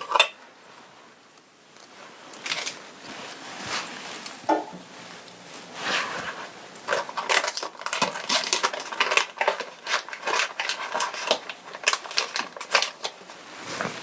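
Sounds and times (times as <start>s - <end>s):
fabric crinkling: 1.7s - 14.0s.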